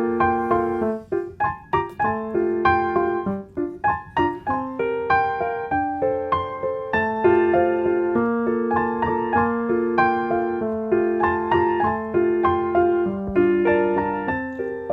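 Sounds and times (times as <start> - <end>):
gentle piano music: 0.0 - 14.9.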